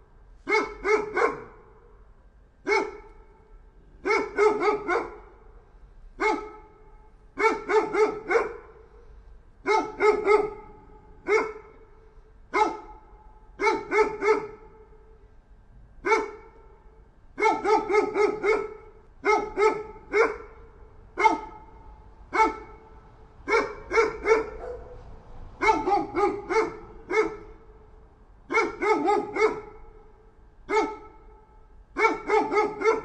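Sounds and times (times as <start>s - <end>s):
dog barking: 0.4s - 2.0s, 2.6s - 3.4s, 4.0s - 5.6s, 6.2s - 15.1s, 16.0s - 16.8s, 17.4s - 27.9s, 28.5s - 33.0s.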